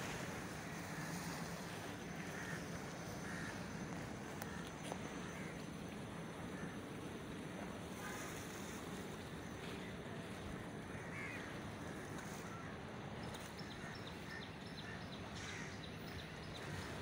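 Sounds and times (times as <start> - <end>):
choppy water rushing: 0.0 - 17.0.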